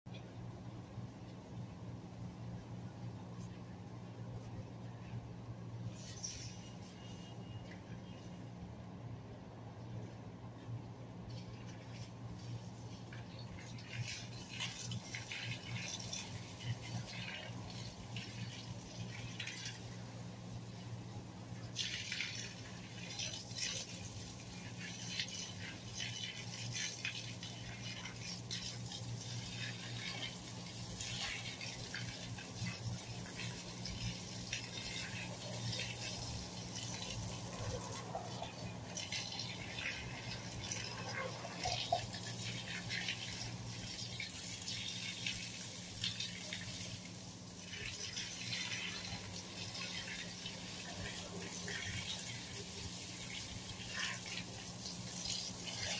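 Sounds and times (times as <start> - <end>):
low steady hum: 0.1 - 55.9
hose water spraying on plants: 0.2 - 8.5, 11.2 - 55.9.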